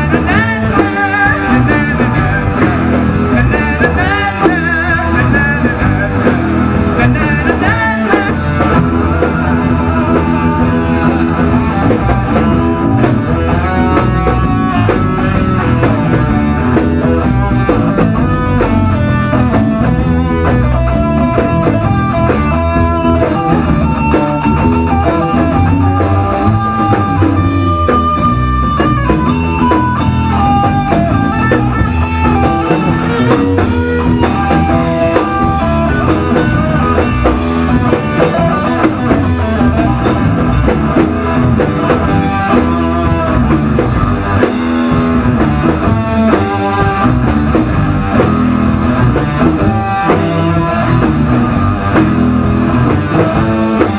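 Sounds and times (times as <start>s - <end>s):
rock band playing live: 0.0s - 53.9s.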